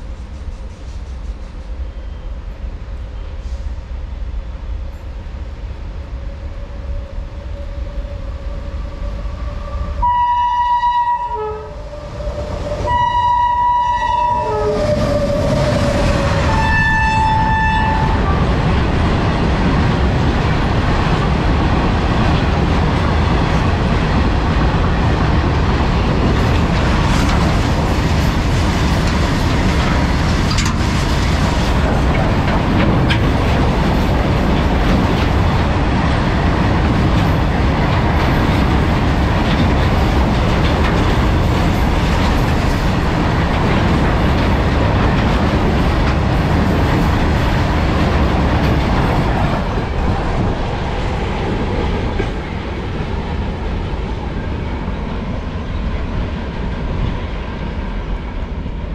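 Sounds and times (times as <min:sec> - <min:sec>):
freight train wheels on rail: 0:00.0 - 0:58.9.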